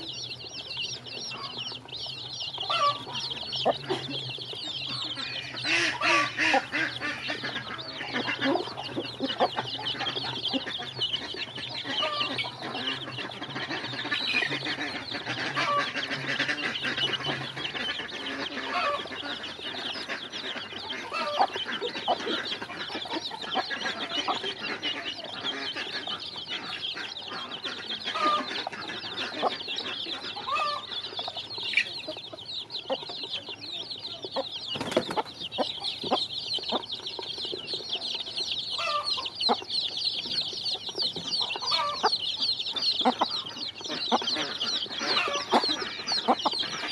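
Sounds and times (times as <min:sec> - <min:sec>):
chicks peeping: 0:00.0 - 0:46.9
hen clucking: 0:00.0 - 0:46.9.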